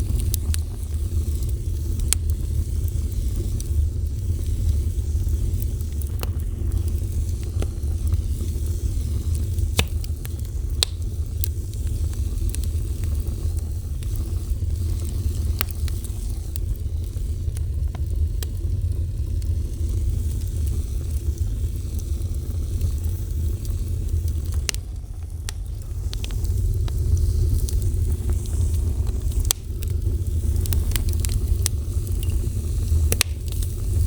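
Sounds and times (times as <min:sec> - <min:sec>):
fire crackles and pops: 0:00.0 - 0:34.0
fire rumbling and hissing: 0:00.0 - 0:34.0.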